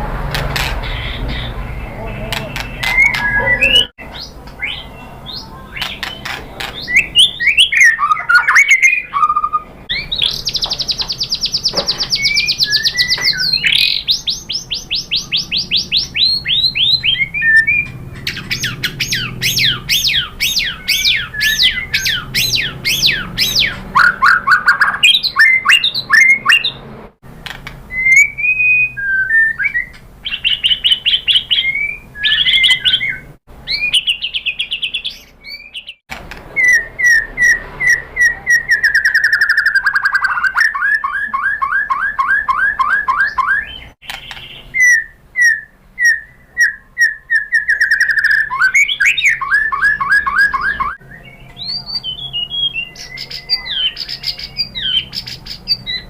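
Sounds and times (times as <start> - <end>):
shama singing whistles and chirps: 1.0 - 6.2, 6.8 - 26.8, 27.9 - 36.0, 36.6 - 56.0.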